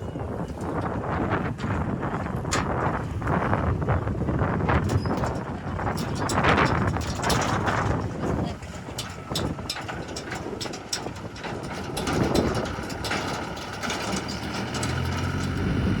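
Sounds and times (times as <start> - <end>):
heavy diesel engine running: 0.0 - 16.0
clanks and knocks: 0.4 - 3.6, 4.6 - 15.6.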